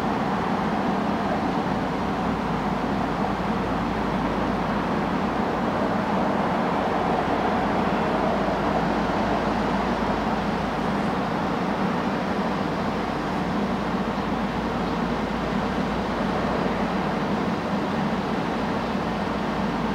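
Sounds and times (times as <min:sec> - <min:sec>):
boat engine drone: 0:00.0 - 0:19.9.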